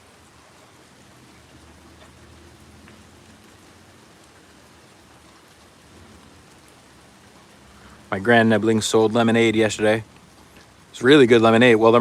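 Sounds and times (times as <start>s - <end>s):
faint rain falling: 0.0s - 12.0s
water drips: 0.0s - 12.0s.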